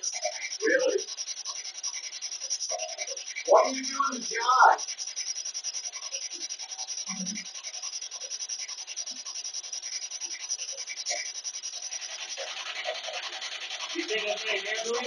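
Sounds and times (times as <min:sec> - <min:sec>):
broken radio sound snatches: 0:00.0 - 0:15.0
choppy pulsing radio static: 0:00.0 - 0:15.0.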